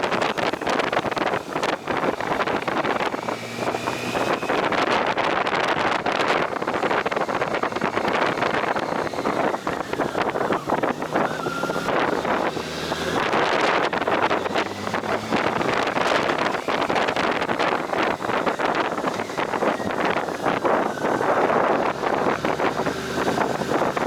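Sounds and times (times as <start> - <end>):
faint vehicle noise: 0.0 - 24.0
wind buffeting microphone: 0.0 - 24.0.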